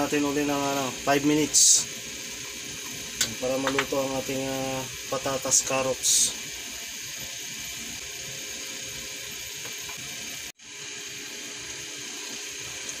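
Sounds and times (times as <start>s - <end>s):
stew bubbling in a pan: 0.2s - 13.0s.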